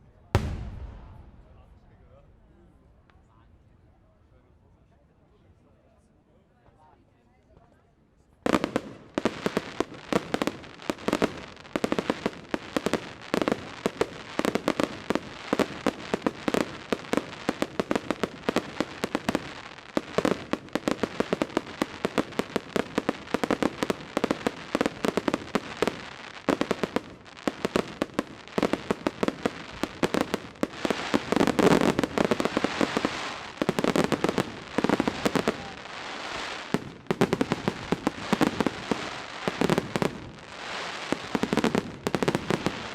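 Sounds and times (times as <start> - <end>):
fireworks bangs and crackling: 0.3 - 2.4, 8.4 - 42.9.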